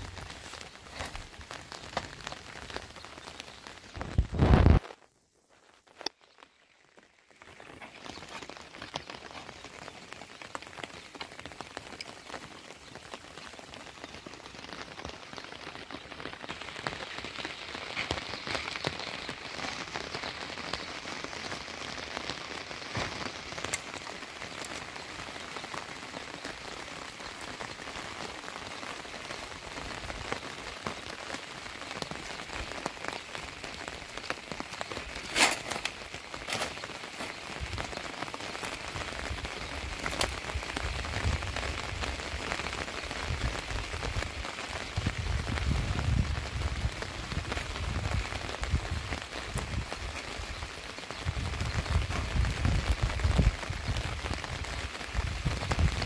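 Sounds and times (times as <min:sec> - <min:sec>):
rain on plastic sheeting: 0:00.0 - 0:56.0.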